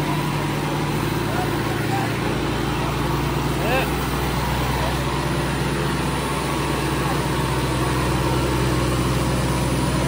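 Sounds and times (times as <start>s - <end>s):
tractor diesel engines under load: 0.0s - 10.0s.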